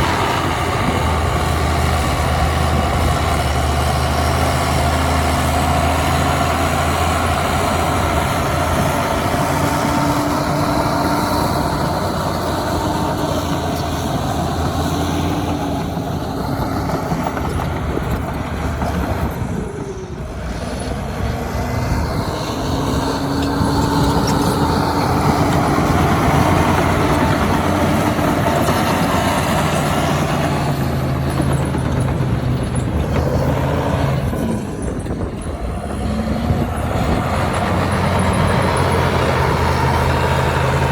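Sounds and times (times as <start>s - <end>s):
diesel earthmoving machinery: 0.0s - 40.9s.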